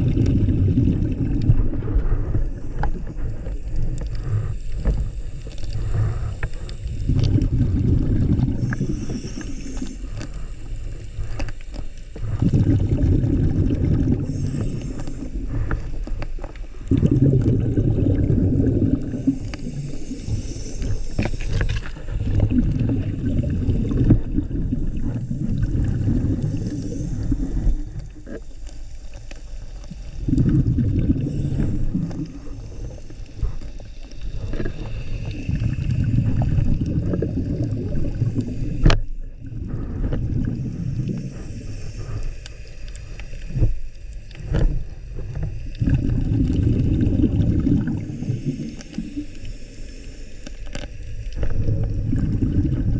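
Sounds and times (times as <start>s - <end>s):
diver breathing through regulator: 0.0s - 52.9s
exhaled bubbles rumbling: 0.0s - 52.9s.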